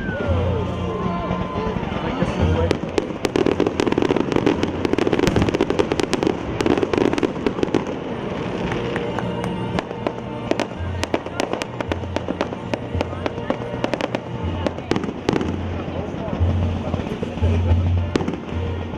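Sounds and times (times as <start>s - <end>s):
fireworks crackling pops: 0.0s - 18.9s
music playing: 0.0s - 18.9s.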